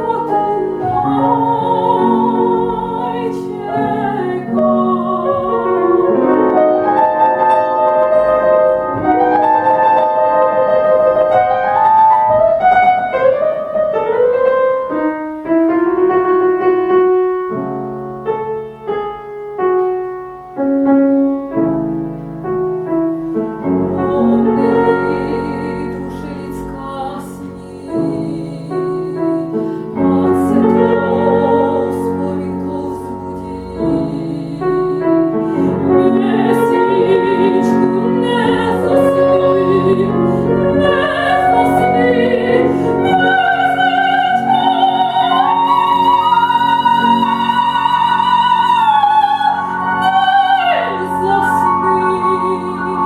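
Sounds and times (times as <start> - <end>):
woman singing classical vibrato: 0.0 - 16.6, 23.6 - 53.0
grand piano: 0.0 - 53.0.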